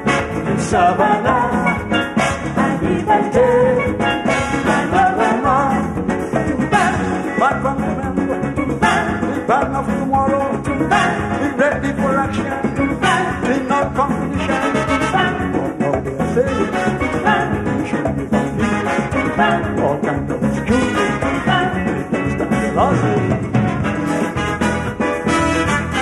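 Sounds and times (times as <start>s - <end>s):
bass: 0.0s - 26.0s
drum kit: 0.0s - 26.0s
guitar: 0.0s - 26.0s
trombones and trumpets riffs: 0.0s - 26.0s.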